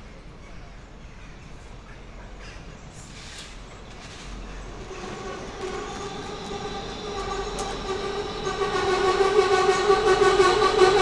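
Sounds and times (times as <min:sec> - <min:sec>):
diesel railcar whine: 0:00.0 - 0:11.0.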